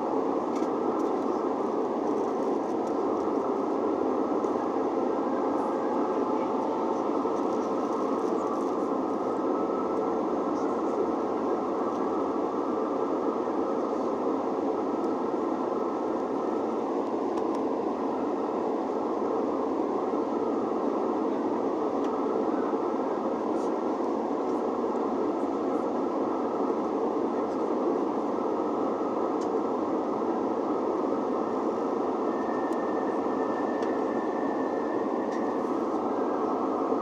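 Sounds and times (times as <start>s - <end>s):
faint thin whine: 0.0s - 37.0s.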